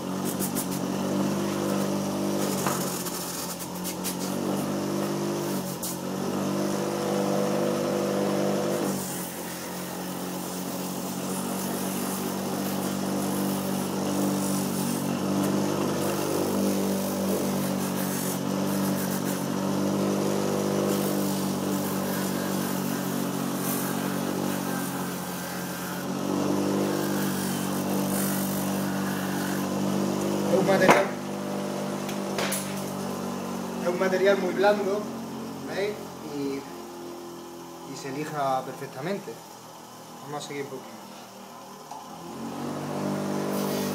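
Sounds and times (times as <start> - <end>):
bench grinder sanding shoe sole: 0.0 - 36.2, 42.7 - 43.9.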